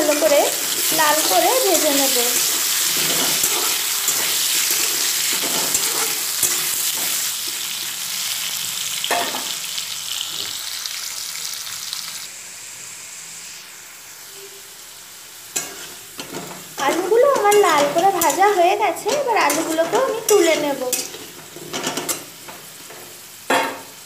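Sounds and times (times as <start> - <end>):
potatoes sizzling in oil: 0.0 - 24.0.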